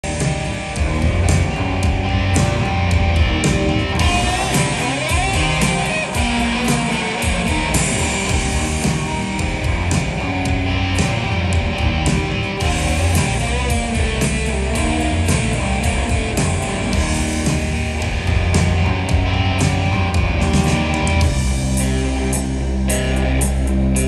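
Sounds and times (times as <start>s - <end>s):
distorted electric guitars: 0.0s - 24.0s
drum beat with cymbals: 0.0s - 24.0s.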